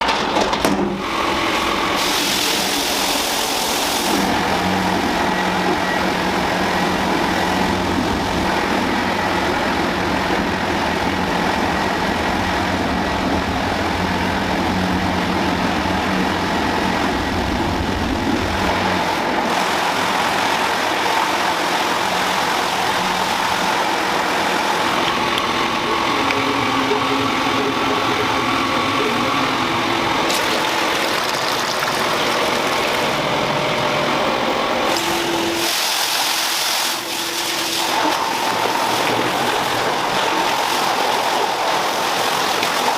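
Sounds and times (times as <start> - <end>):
machinery hum and whir: 0.0 - 42.9.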